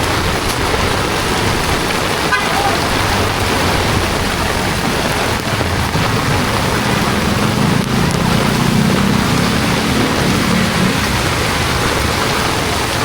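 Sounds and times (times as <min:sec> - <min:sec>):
heavy rain pouring: 0:00.0 - 0:13.0
passing vehicle engine hum: 0:00.0 - 0:13.0.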